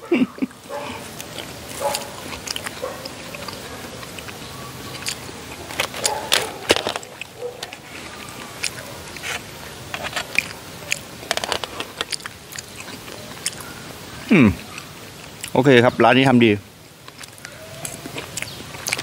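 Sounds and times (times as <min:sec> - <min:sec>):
chewing: 0:00.1 - 0:15.6, 0:17.0 - 0:19.0.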